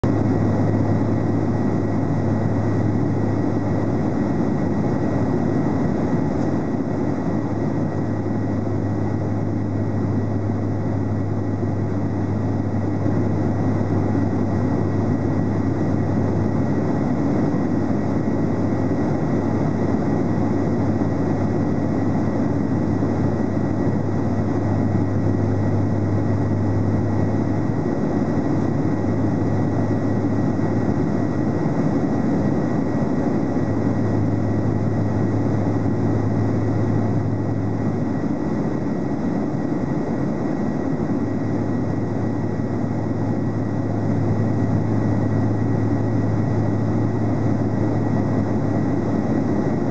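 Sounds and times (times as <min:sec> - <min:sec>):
airflow rushing over fuselage: 0:00.0 - 0:49.9
faint thin whine: 0:00.0 - 0:49.9
low jet engine drone: 0:00.0 - 0:49.9.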